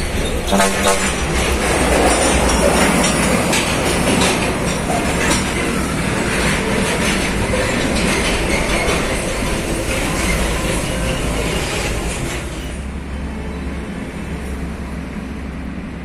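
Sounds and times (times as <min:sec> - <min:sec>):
trailer rattling and clanking: 0:00.0 - 0:13.5.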